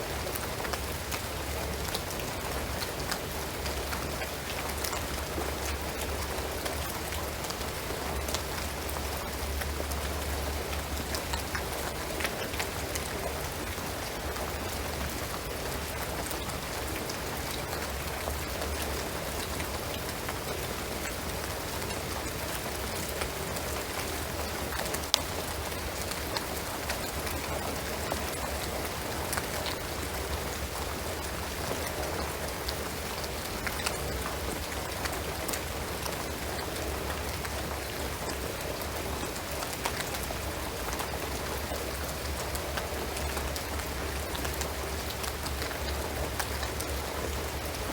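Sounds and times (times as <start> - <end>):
rain on a shingled roof: 0.0 - 47.9
raindrops ticking: 0.0 - 47.9.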